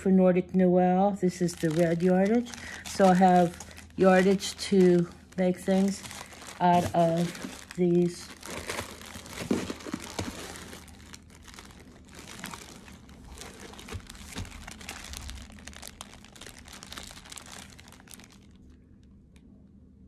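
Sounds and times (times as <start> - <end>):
plastic bags crinkling: 1.2 - 18.8.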